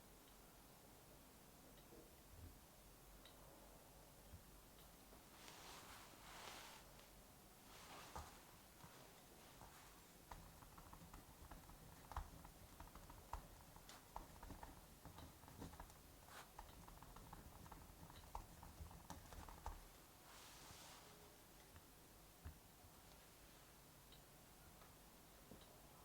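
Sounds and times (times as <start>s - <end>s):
soft hiss: 0.0s - 26.0s.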